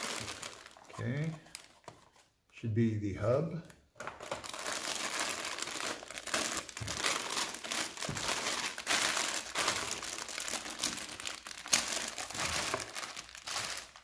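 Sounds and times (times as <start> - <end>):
plastic bags crinkling: 0.0 - 2.2, 4.0 - 14.0.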